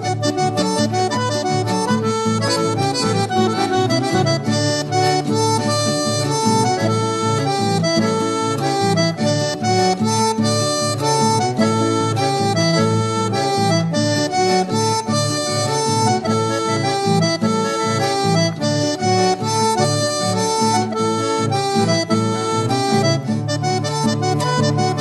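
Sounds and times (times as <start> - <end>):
instrumental music: 0.0 - 25.0.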